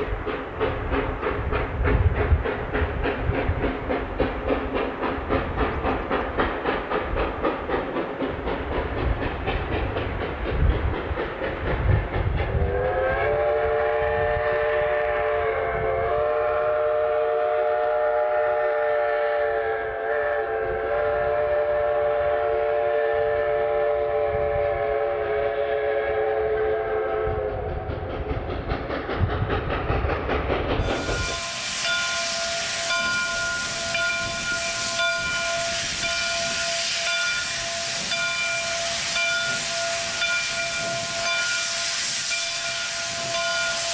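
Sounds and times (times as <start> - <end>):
steam locomotive exhaust beats: 0.0 - 43.9
steam venting hiss: 0.0 - 43.9.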